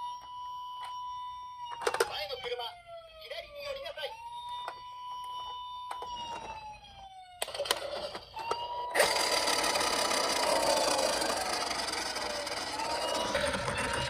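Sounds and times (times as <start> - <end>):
toy electronic siren: 0.0 - 14.0.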